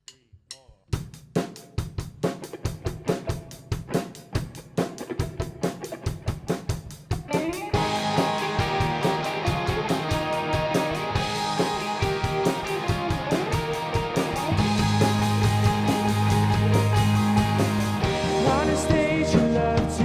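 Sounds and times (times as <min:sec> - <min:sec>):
drum kit beat: 0:00.0 - 0:20.0
rock band playing: 0:01.6 - 0:20.0.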